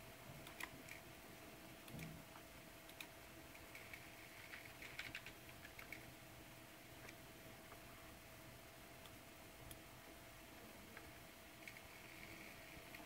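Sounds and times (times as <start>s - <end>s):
hard drive spinning whine: 0.0s - 13.0s.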